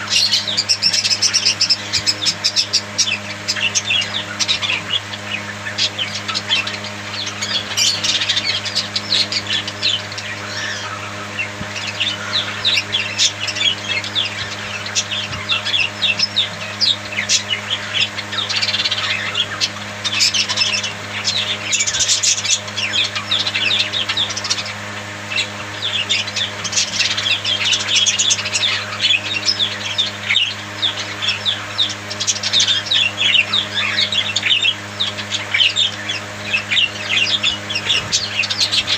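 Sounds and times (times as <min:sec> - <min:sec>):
budgerigar squawks: 0:00.0 - 0:38.9
budgerigars chattering: 0:00.0 - 0:38.9.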